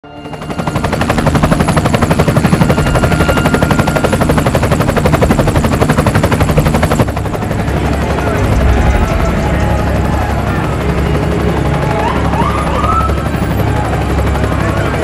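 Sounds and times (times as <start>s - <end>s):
helicopter rotor chopping: 0.1s - 15.0s.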